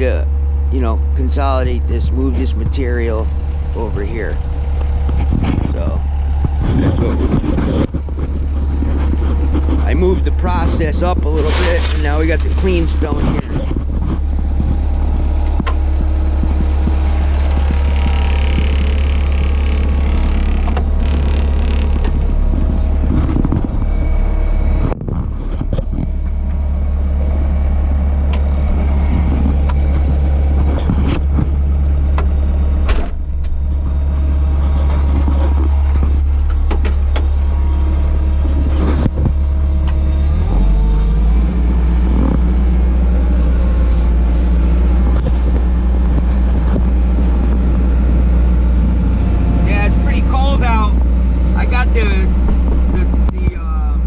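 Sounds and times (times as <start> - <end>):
skid steer engine running: 0.0 - 54.0.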